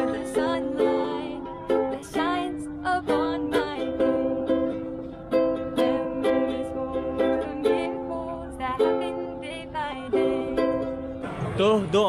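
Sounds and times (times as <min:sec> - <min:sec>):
ukulele strumming chords: 0:00.0 - 0:12.0.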